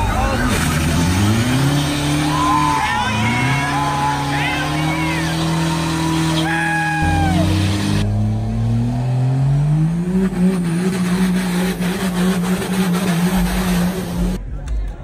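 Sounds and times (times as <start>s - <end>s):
vehicle engine revving: 0.0s - 14.4s.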